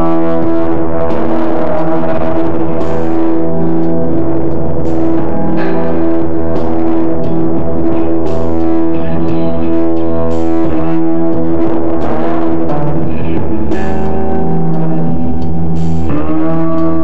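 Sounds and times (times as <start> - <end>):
electric guitar and synthesizer drone: 0.0 - 17.0.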